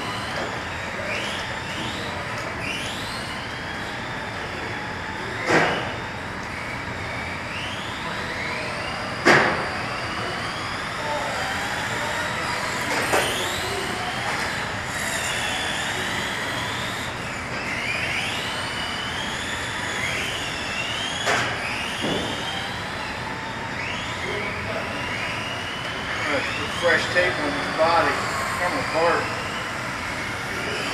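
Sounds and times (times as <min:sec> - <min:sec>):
rc car motors whining: 0:00.0 - 0:30.9.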